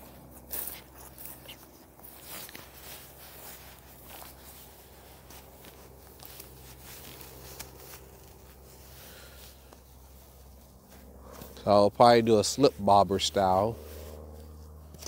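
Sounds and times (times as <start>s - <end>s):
faint rustling: 0.0s - 15.0s
low background hum: 0.0s - 15.0s.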